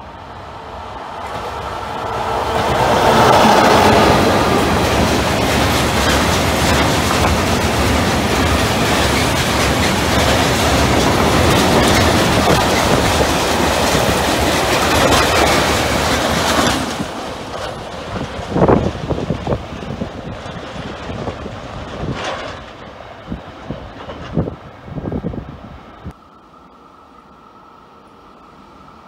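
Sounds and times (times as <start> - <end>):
freight train wheel and rail noise: 0.0 - 29.0.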